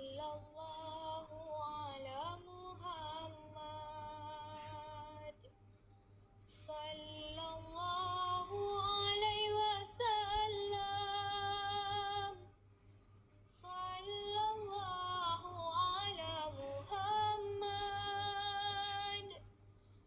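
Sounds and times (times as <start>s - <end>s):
woman singing unaccompanied: 0.0s - 5.5s, 6.5s - 12.5s, 13.5s - 19.5s.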